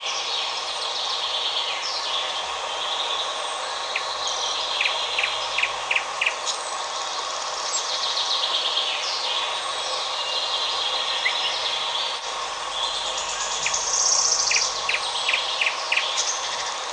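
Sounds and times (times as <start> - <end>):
background forest hiss: 0.0 - 16.9
songbirds singing: 0.0 - 16.9.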